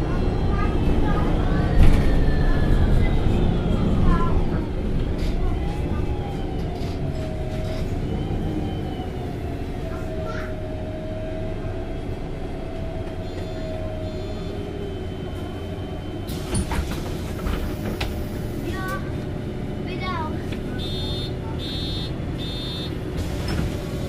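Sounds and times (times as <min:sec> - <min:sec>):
bus engine rumble: 0:00.0 - 0:24.0
engine whine: 0:00.0 - 0:24.0.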